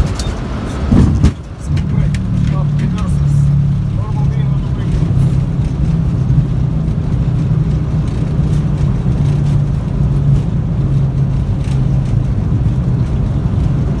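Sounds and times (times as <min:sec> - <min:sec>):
aircraft engine and airflow drone: 0:00.0 - 0:14.0.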